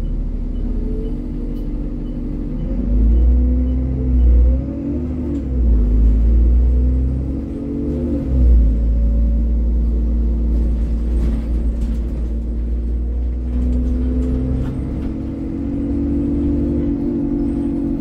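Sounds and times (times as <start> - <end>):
bus engine rumble from inside: 0.0 - 18.0.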